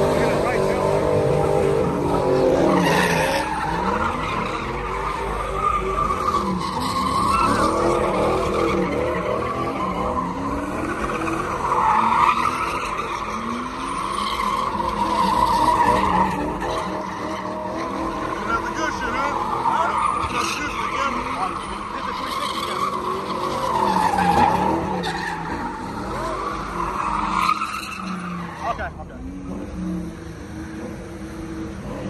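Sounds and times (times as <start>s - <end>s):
car engine revving: 0.0s - 32.0s
tyres squealing: 2.4s - 28.9s.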